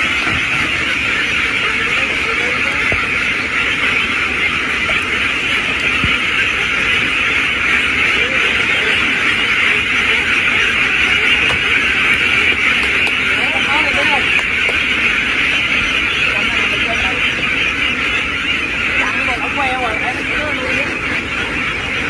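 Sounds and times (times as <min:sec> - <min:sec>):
flock of ducks quacking: 0:00.0 - 0:22.0.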